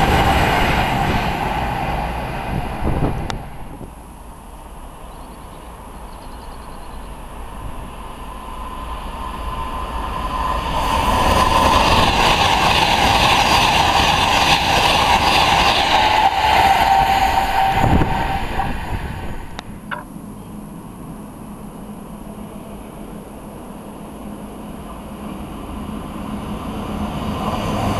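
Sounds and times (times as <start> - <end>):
passenger train passing at speed: 0.0 - 27.9.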